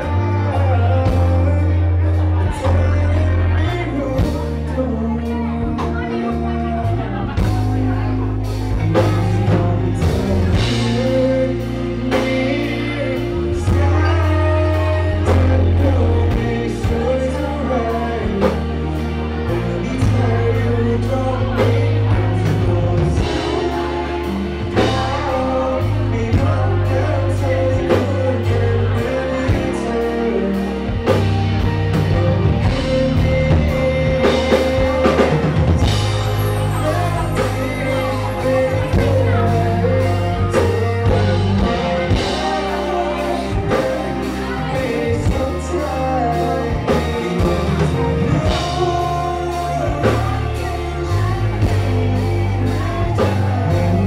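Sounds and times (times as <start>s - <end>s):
bass: 0.0s - 54.0s
guitar: 0.0s - 54.0s
live band playing pop-rock: 0.0s - 54.0s
person singing: 0.0s - 54.0s
steady drum beat: 8.5s - 30.0s, 30.8s - 54.0s.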